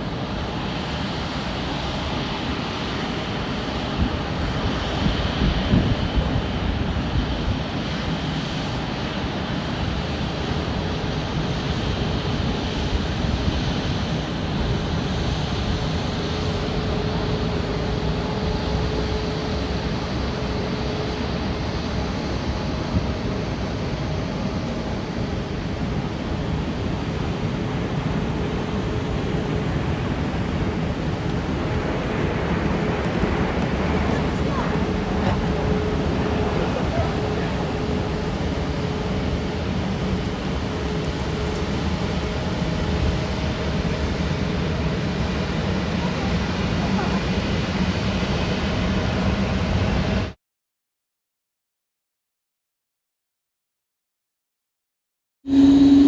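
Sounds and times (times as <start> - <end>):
jet engines running: 0.0 - 50.4, 55.5 - 56.0.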